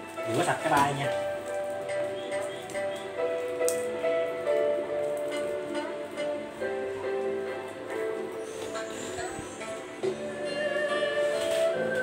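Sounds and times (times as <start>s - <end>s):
music with sustained notes: 0.0s - 12.0s.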